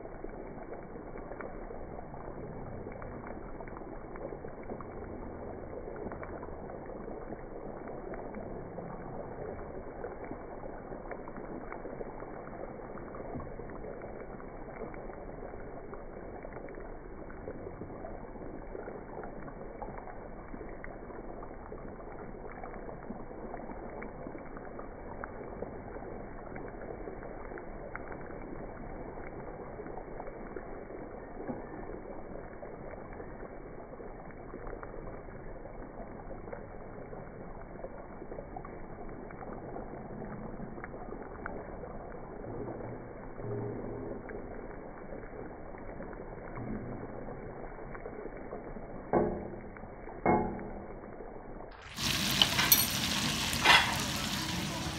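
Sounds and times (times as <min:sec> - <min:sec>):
butter and oil sizzling in pan: 0:00.0 - 0:54.9.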